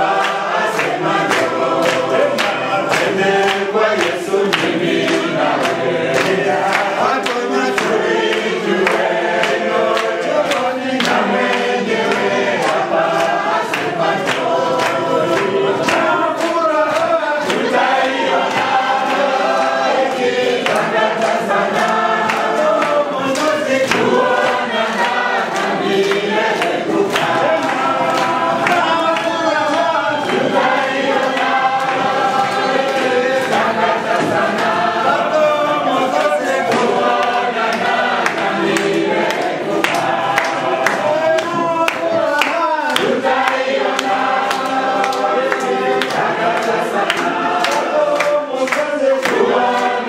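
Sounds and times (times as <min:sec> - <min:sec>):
group singing: 0:00.0 - 0:50.0
hands clapping a beat: 0:00.0 - 0:50.0.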